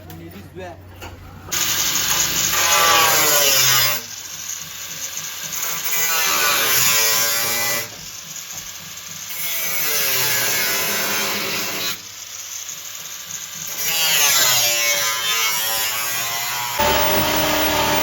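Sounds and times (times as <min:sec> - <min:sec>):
handheld power tool whining: 0:01.5 - 0:18.0.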